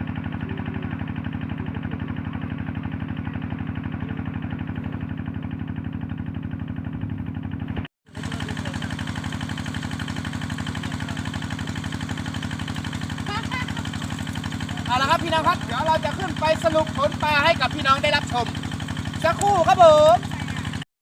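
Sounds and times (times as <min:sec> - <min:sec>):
small engine puttering: 0:00.0 - 0:20.8.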